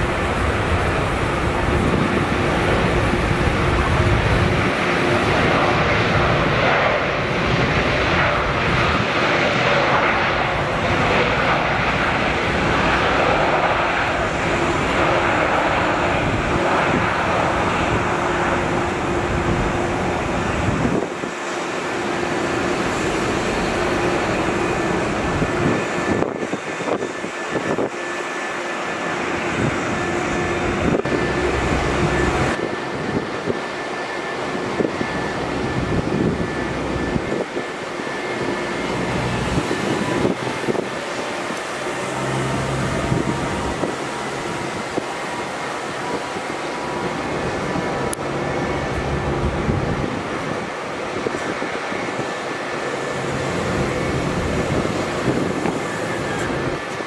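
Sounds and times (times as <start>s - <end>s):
airplane on landing approach: 0.0s - 57.0s
constant engine hum: 0.0s - 57.0s
jet engines rushing: 0.0s - 57.0s.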